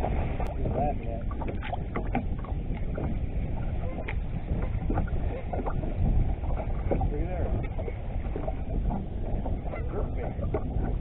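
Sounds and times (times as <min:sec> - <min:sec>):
water slapping against boat hull: 0:00.0 - 0:11.0
wind rumbling on microphone: 0:00.0 - 0:11.0.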